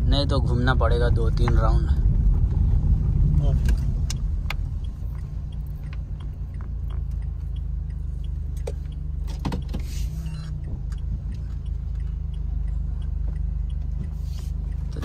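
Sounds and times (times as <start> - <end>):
car engine hum inside cabin: 0.0 - 15.0.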